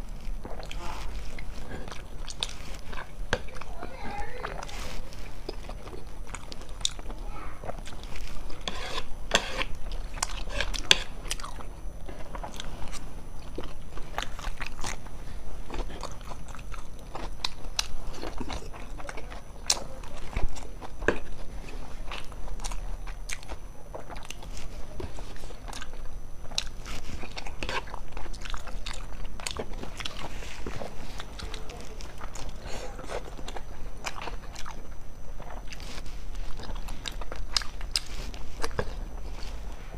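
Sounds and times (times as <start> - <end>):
person chewing and biting: 0.0 - 3.8, 4.5 - 39.8.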